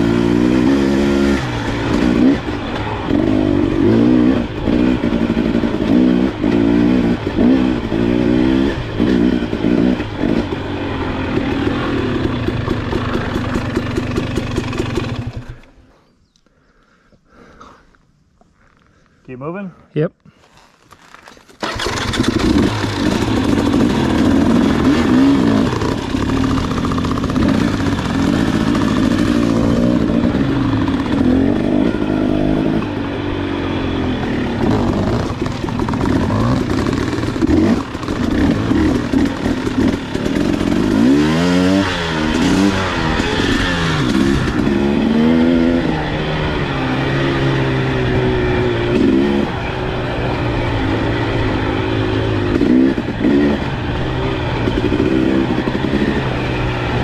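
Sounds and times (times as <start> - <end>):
dirt bike engine revving: 0.0 - 15.7, 21.6 - 57.0.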